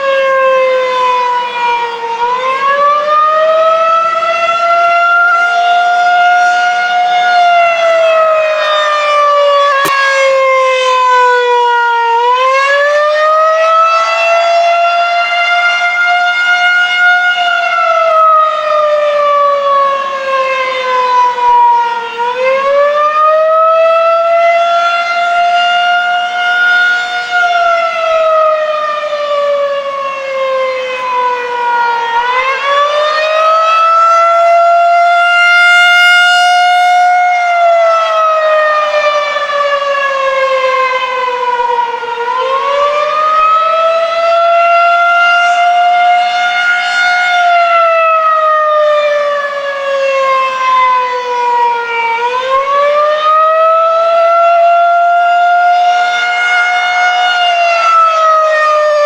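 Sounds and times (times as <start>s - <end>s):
warning siren wailing: 0.0s - 59.0s.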